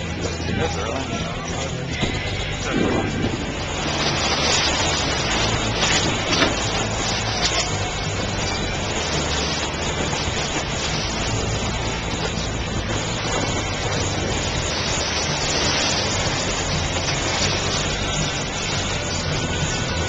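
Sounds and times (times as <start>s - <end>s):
boat engine hum: 0.0s - 20.0s
wind and water spray: 0.0s - 20.0s.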